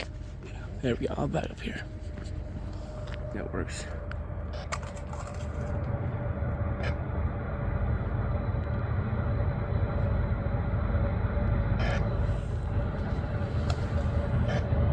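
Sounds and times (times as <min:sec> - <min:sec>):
diesel locomotive rumble: 0:00.0 - 0:14.9
thin steady whine: 0:00.0 - 0:14.9.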